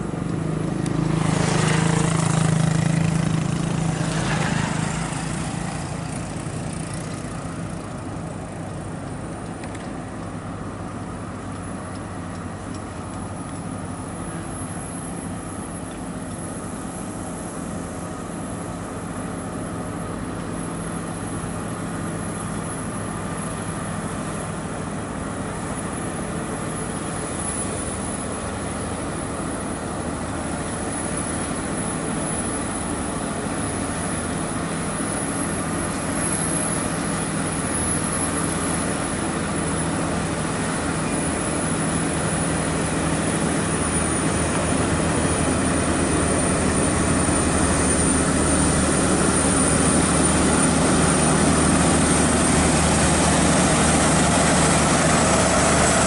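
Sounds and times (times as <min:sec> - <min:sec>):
diesel truck engine pulling uphill: 0:00.0 - 0:56.0.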